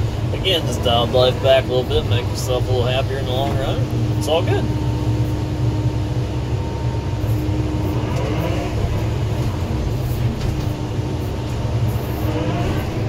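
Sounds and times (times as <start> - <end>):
faint steady whine: 0.0 - 13.0
loader engine drone: 0.0 - 13.0.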